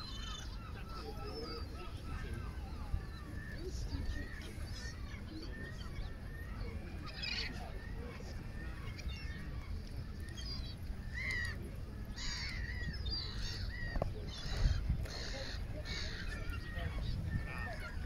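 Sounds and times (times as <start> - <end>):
birds making harsh calls: 0.0 - 18.0.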